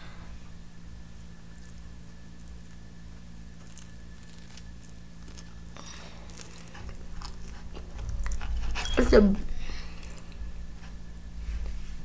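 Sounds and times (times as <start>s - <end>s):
steady low hum: 0.0s - 12.0s
biting and chewing pizza: 1.1s - 11.1s.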